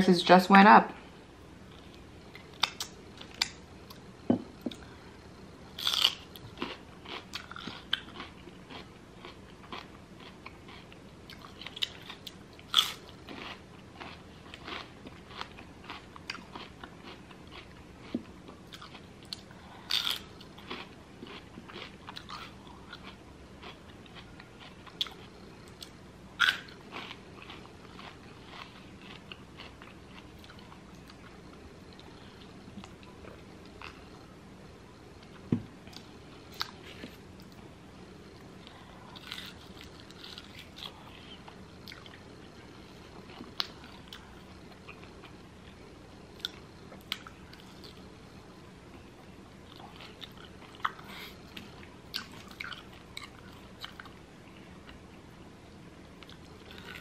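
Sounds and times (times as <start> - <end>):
crunching and chewing food: 1.7 - 34.3, 35.0 - 55.4, 56.1 - 57.0.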